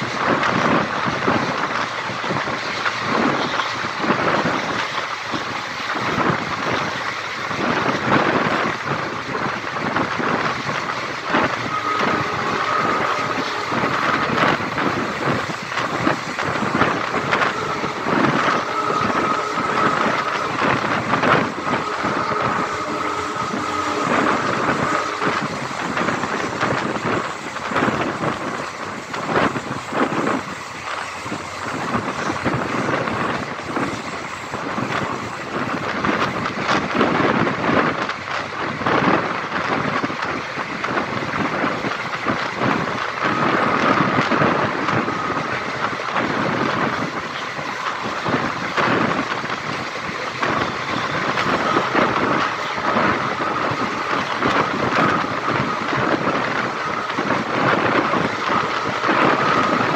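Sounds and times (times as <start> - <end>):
train wheels rumbling on track: 0.0 - 59.9
wind buffeting microphone: 0.0 - 59.9.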